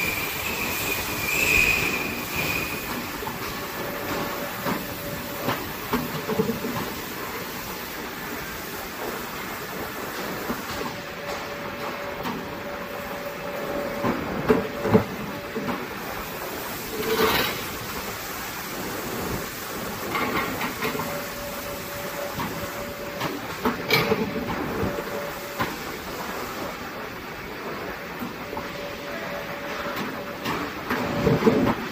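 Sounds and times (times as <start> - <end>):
machine humming and whining: 0.0 - 31.9.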